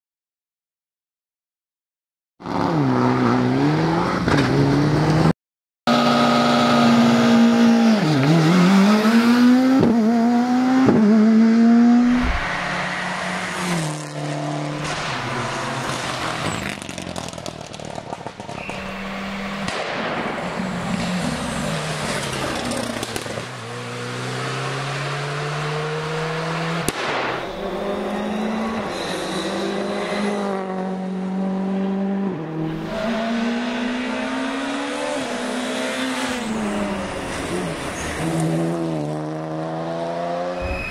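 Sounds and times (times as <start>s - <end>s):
rally car engines revving: 2.4s - 5.3s, 5.9s - 40.9s.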